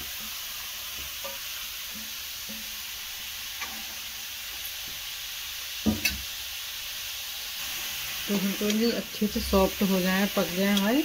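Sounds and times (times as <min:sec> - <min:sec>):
carrots sizzling in oil: 0:00.0 - 0:11.0.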